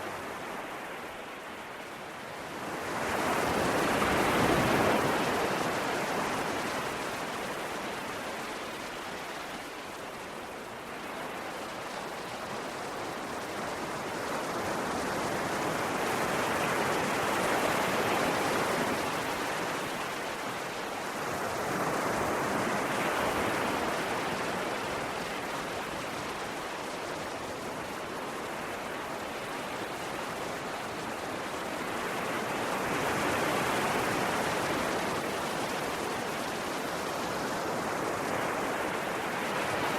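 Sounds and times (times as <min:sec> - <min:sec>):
ocean waves surging: 0:02.6 - 0:39.9.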